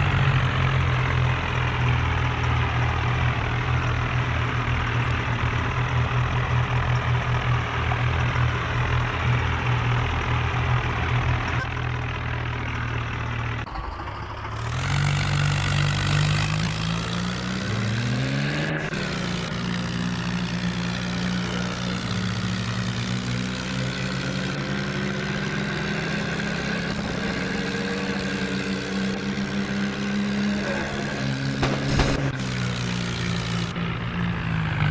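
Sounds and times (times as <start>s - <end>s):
tractor engine revving: 0.0s - 34.9s.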